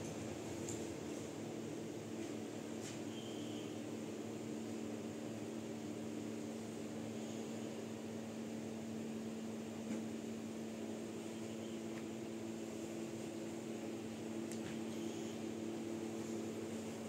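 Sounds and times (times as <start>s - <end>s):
low mechanical hum with hiss: 0.0s - 17.0s.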